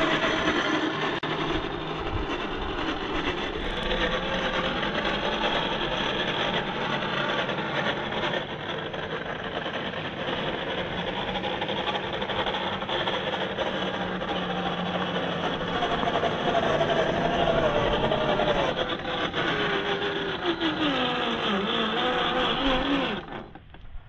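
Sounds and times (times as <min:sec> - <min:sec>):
toy electric motor whirring: 0:00.0 - 0:24.0.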